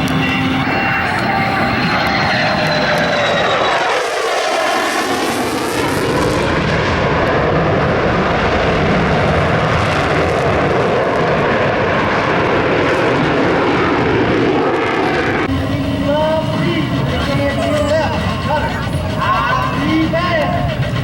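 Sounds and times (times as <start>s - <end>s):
aircraft engine roar: 0.0s - 21.0s.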